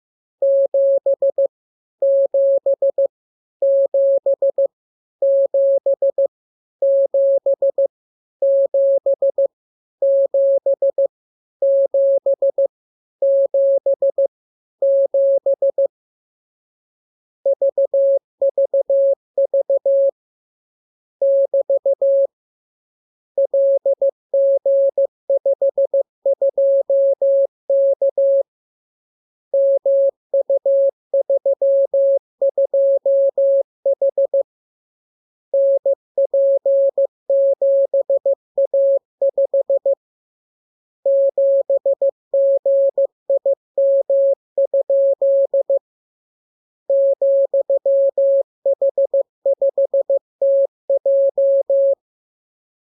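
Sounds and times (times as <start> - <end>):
morse code practice tone: 0.4 - 15.9, 17.5 - 20.2, 21.2 - 22.3, 23.4 - 28.4, 29.6 - 34.4, 35.6 - 40.0, 41.0 - 45.8, 46.9 - 52.0.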